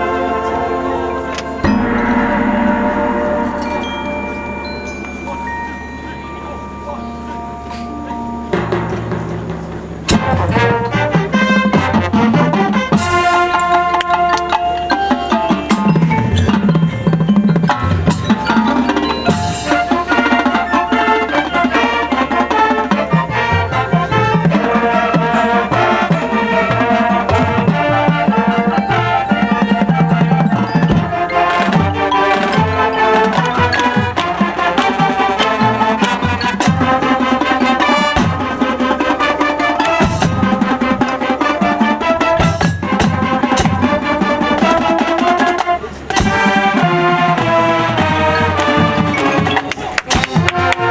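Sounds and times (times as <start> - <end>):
drums: 0.0 - 50.9
marching band playing: 0.0 - 50.9
marimba and xylophone: 0.0 - 50.9.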